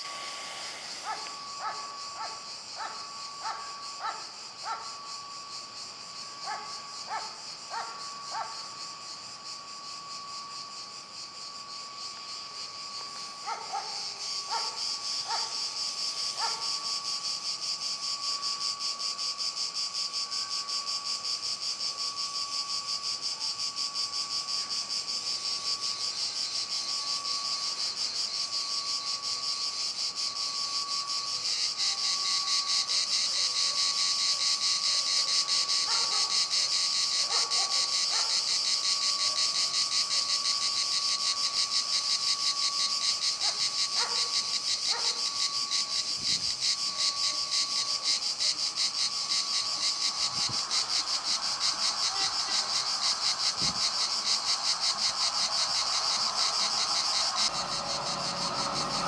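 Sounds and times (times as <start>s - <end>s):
crickets chirring: 0.0s - 59.0s
thin steady tone: 0.0s - 59.0s.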